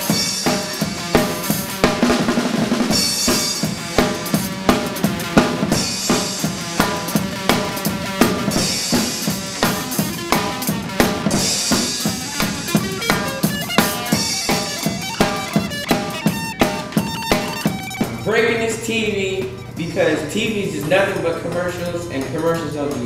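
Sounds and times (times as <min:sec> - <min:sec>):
bass: 0:00.0 - 0:23.0
rock drum beat: 0:00.0 - 0:23.0.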